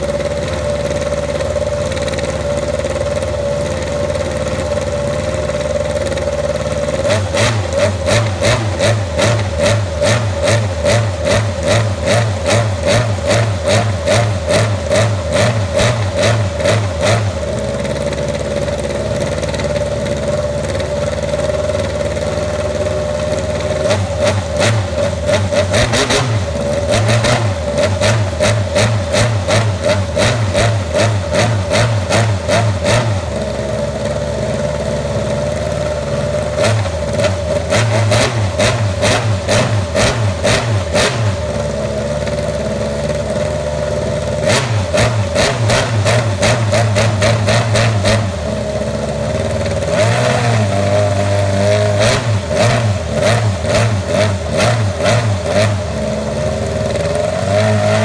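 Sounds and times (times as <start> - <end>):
motorcycle engine idling unevenly: 0.0 - 58.0.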